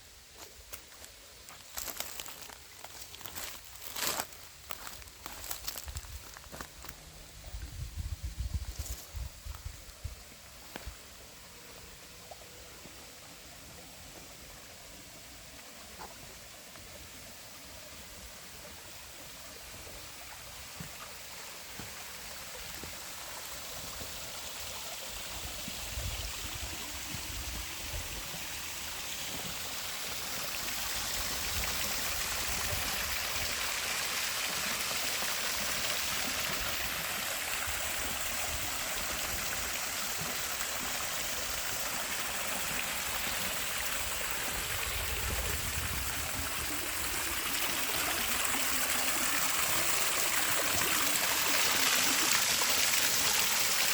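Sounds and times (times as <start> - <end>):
creek water splashing over cascades: 0.2 - 7.7, 8.6 - 53.9.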